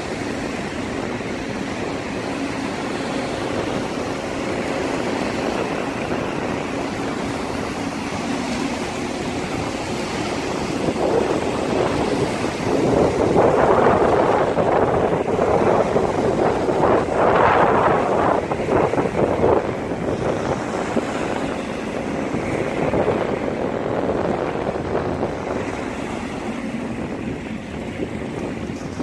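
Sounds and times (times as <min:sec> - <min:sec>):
small waves breaking on sand: 0:00.0 - 0:29.0.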